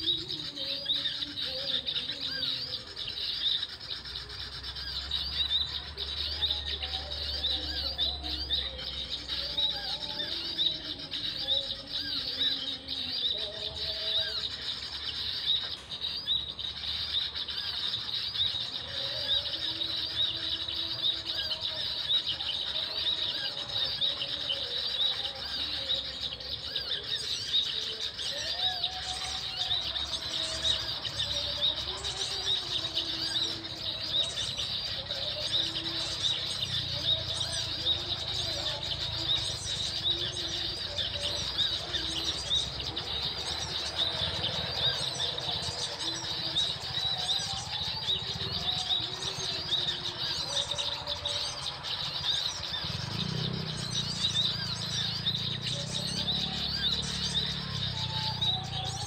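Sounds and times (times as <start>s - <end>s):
birds chirping rapidly: 0.0s - 59.0s
lower bird calls: 0.0s - 59.0s.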